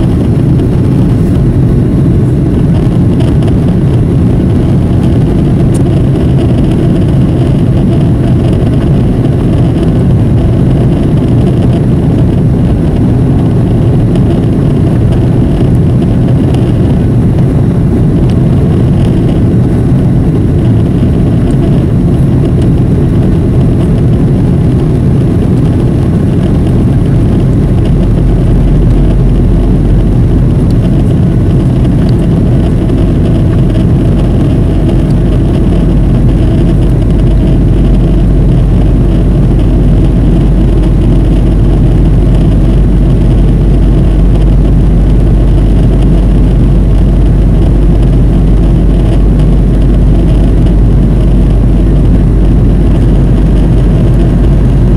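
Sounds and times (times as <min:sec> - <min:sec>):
deeper low rumble: 0:00.0 - 0:54.9
jet engine and airflow rumble: 0:00.0 - 0:54.9.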